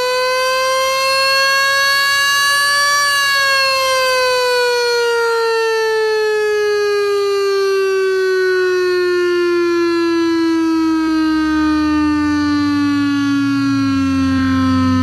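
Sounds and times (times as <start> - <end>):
warning siren falling in pitch: 0.0 - 15.0.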